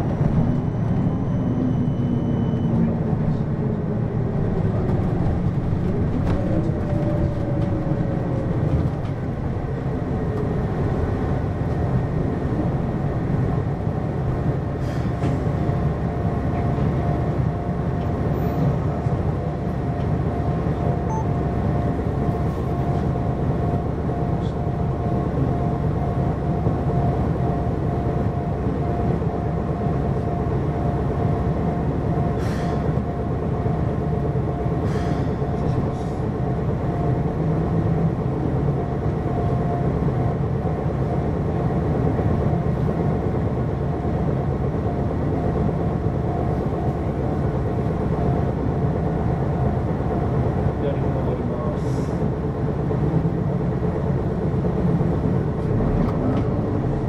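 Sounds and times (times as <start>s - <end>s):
bus diesel engine: 0.0s - 57.0s
road rumble: 0.0s - 57.0s.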